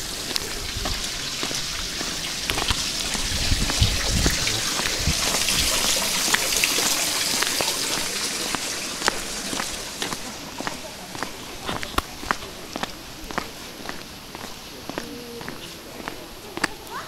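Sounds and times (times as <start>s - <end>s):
water dripping onto stone: 0.0s - 17.0s.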